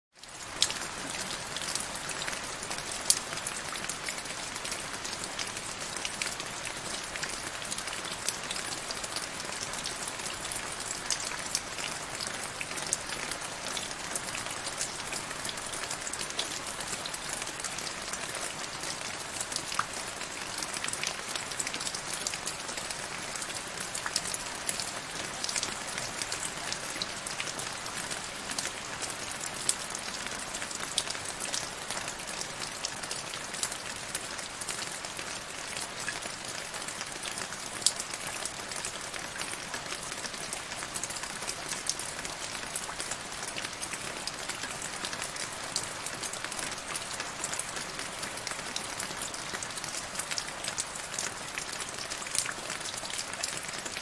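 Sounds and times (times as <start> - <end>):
rain falling into a puddle: 0.1 - 54.0.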